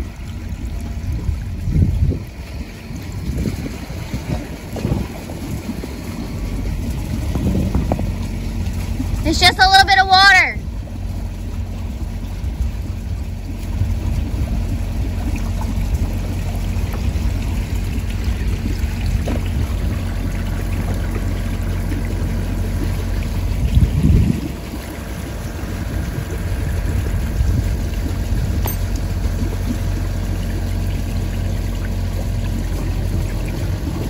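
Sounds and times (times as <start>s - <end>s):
low rumble: 0.0s - 34.0s.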